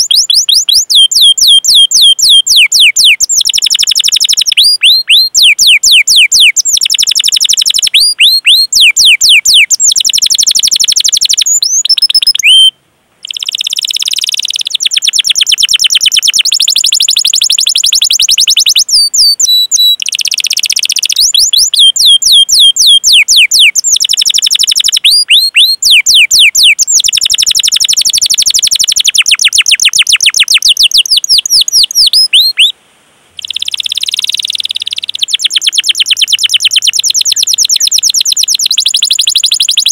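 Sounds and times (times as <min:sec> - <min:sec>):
canary singing: 0:00.0 - 0:32.8, 0:33.4 - 0:39.9.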